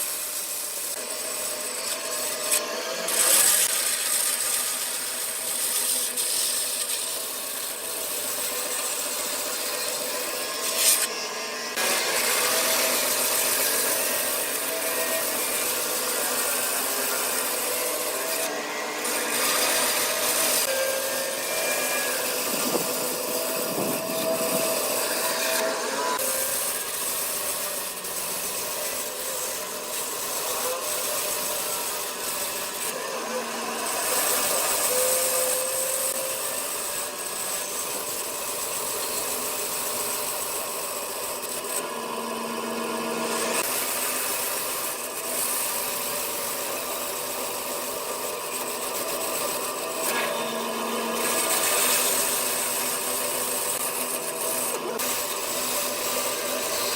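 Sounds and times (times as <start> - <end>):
wood lathe running: 0.0 - 56.9
wood lathe tool scraping: 0.0 - 56.9.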